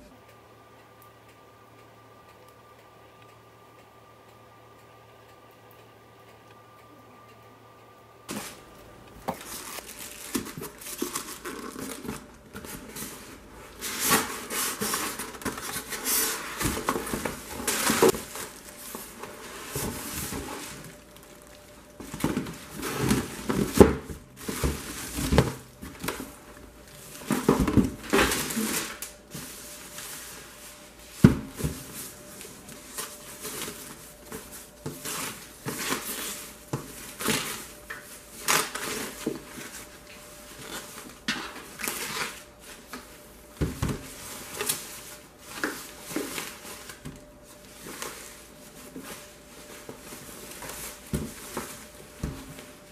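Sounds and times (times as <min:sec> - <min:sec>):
faint steady hum: 0:00.0 - 0:52.9
plastic bag rustling and crinkling: 0:08.3 - 0:52.9.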